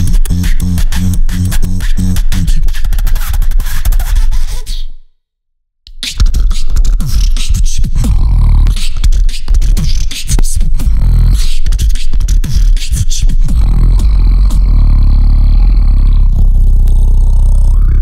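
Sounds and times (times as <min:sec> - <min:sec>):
beatboxing into a microphone: 0:00.0 - 0:05.0, 0:05.9 - 0:18.0.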